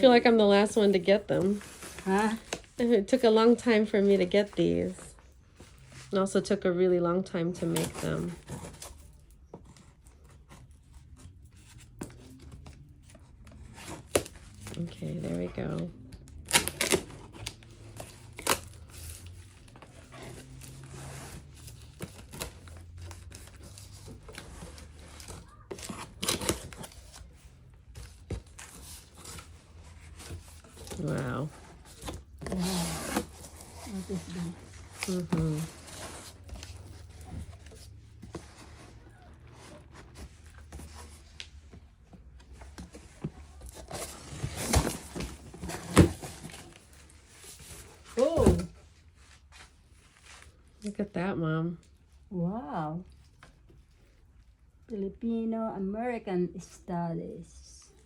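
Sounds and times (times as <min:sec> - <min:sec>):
box packaging rustling and crinkling: 0:00.0 - 0:06.6, 0:07.5 - 0:51.0.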